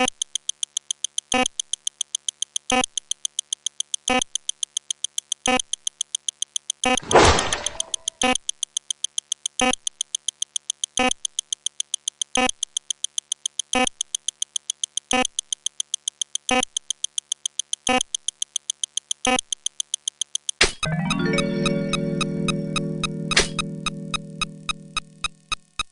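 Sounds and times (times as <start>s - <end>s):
fast electronic clicks: 0.0s - 20.8s, 22.7s - 25.9s.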